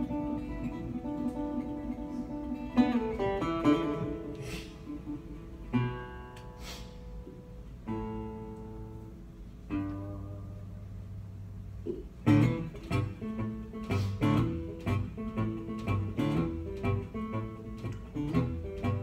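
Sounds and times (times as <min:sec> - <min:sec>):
resonator guitar playing: 0:00.0 - 0:19.0.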